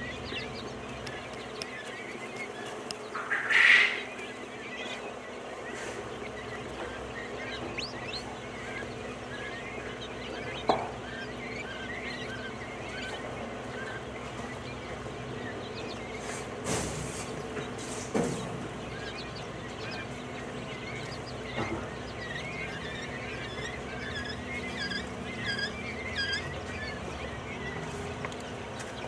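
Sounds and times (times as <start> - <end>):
quail chirping: 0.0 - 29.0.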